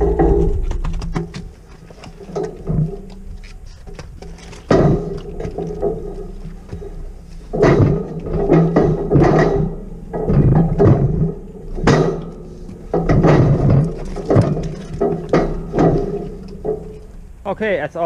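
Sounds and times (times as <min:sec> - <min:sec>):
metal crush rattling and clanging: 0:00.0 - 0:18.0
steady low hum: 0:00.0 - 0:18.0.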